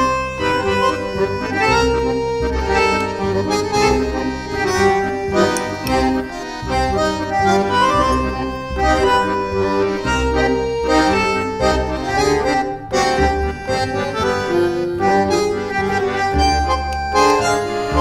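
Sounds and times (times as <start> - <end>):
instrumental music: 0.0 - 18.0.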